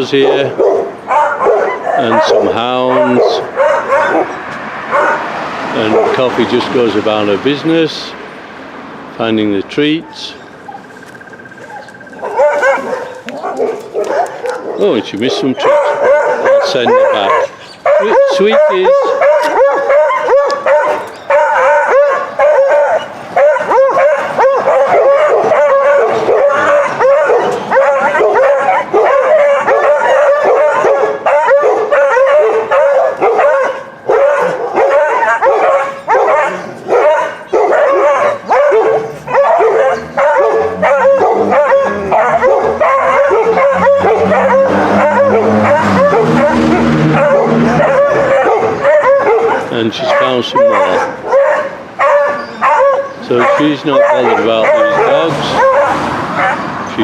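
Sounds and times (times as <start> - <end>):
dogs barking and yipping: 0.0 - 57.0.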